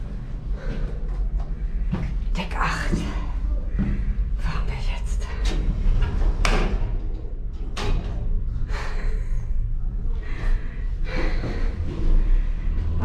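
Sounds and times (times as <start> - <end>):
low rumble inside lift: 0.0 - 13.0.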